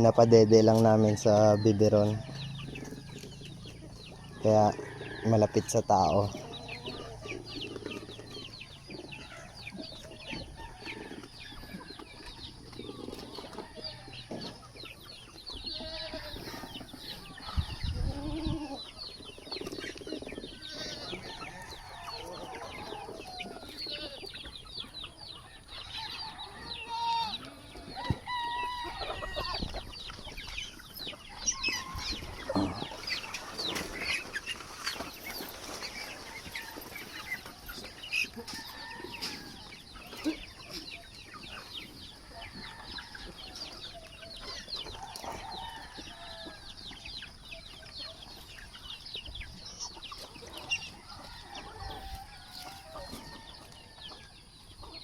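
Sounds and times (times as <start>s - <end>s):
chickens clucking: 0.0s - 55.0s
farmyard animal calls: 0.0s - 55.0s.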